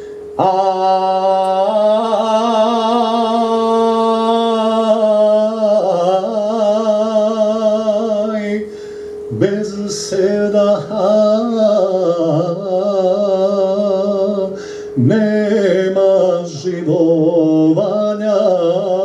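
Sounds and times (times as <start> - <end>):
man singing into a microphone: 0.4 - 19.0.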